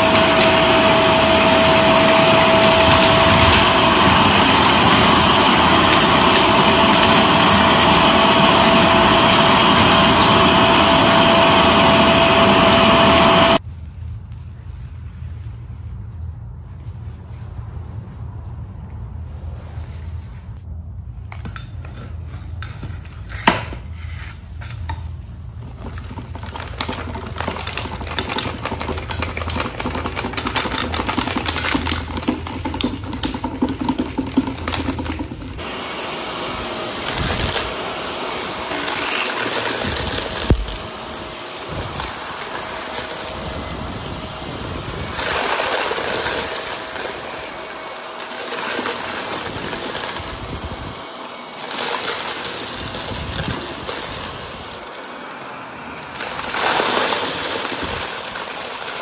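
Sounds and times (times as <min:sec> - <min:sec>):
grit crackling and rattling: 0:00.0 - 0:13.6, 0:21.3 - 0:35.6, 0:37.0 - 0:55.0, 0:56.0 - 0:59.0
vacuum cleaner on a rug: 0:00.0 - 0:13.6, 0:21.3 - 0:59.0.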